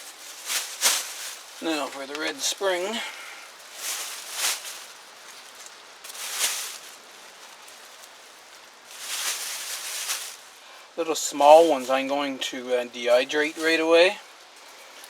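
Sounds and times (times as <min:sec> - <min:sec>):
bag of onions rustling: 0:00.0 - 0:15.0.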